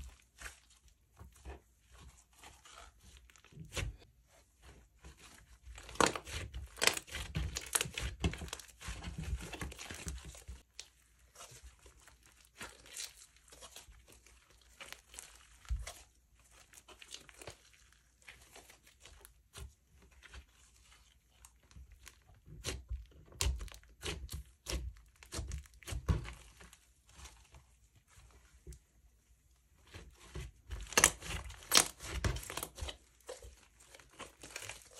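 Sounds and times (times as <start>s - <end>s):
slime squished by hand: 5.0s - 28.8s, 29.8s - 34.9s.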